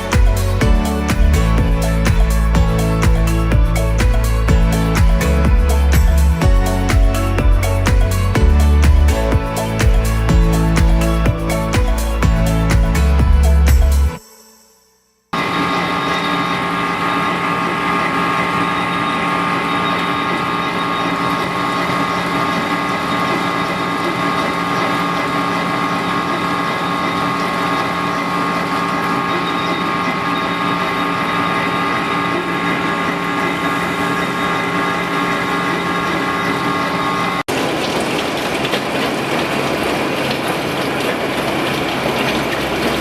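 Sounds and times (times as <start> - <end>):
factory machinery humming: 0.0 - 14.4, 15.4 - 43.0
machine whining tones: 0.0 - 37.8.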